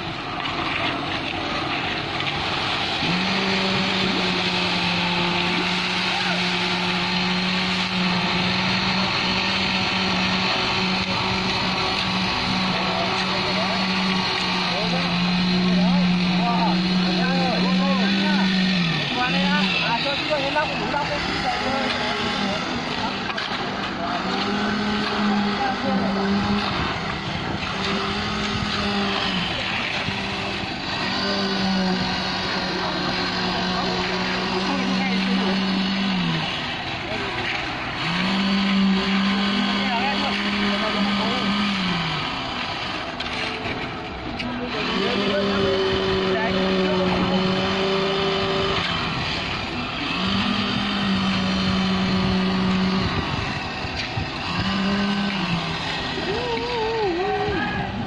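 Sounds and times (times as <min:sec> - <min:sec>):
rakes scraping wet concrete: 0:00.0 - 0:58.0
truck engine droning: 0:00.0 - 0:58.0.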